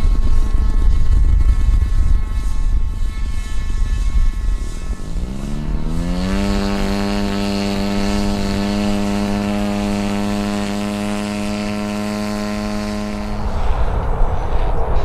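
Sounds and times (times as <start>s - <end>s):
model airplane motor and propeller: 0.0s - 13.6s.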